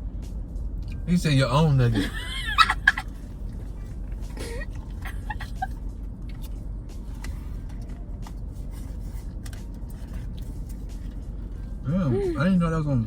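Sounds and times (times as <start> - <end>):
low rumble inside car: 0.0 - 13.0.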